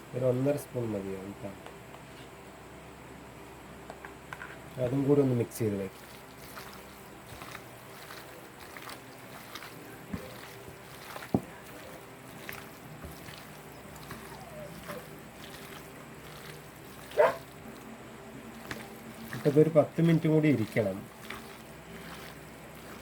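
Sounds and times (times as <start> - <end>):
steady low hum: 0.0 - 23.0
faint handling sounds in a bowl: 0.8 - 2.6, 3.5 - 23.0.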